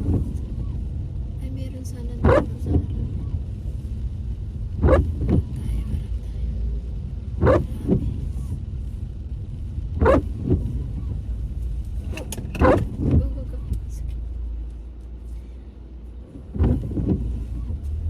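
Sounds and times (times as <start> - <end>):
car road and engine rumble: 0.0 - 18.0
windscreen wipers sweeping: 0.0 - 18.0.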